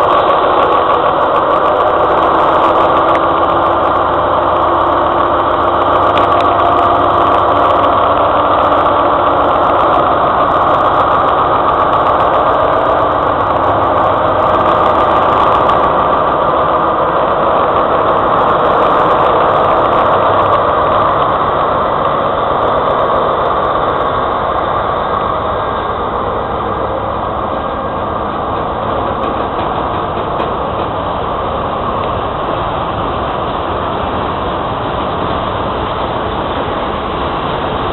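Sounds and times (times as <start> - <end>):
diesel locomotive engine under load: 0.0 - 37.9
rumble of rolling wagons: 0.0 - 37.9.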